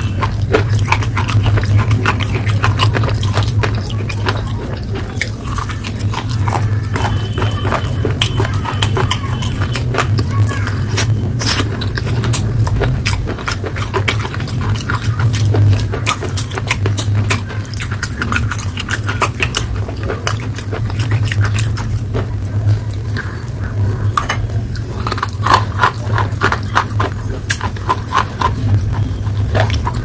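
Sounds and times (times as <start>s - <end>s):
chewing crunches and clicks: 0.0s - 30.0s
steady low hum: 0.0s - 30.0s.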